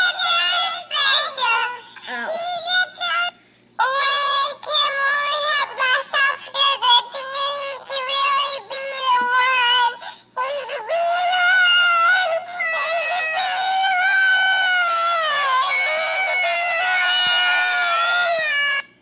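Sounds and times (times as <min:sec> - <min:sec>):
high-pitched singing voice: 0:00.0 - 0:18.9.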